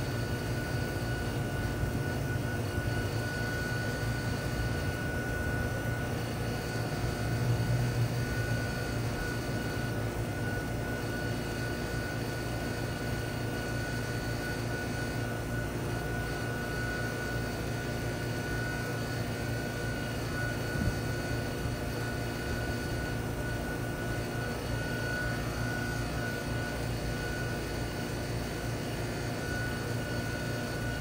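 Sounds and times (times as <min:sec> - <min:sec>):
heat pump humming: 0:00.0 - 0:31.0.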